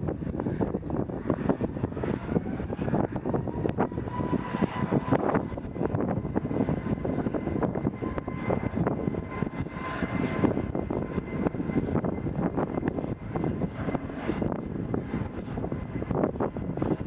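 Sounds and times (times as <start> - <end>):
airliner engine noise: 0.0 - 17.0
wind buffeting microphone: 0.0 - 17.0.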